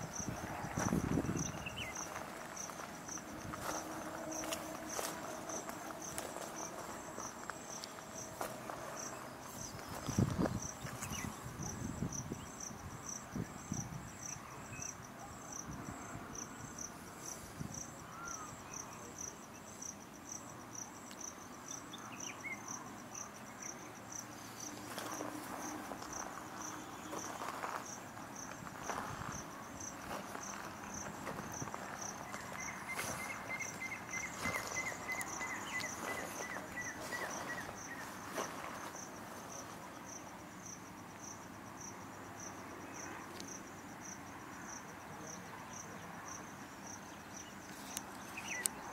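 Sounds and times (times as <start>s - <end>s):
insect chirping: 0.0s - 48.9s.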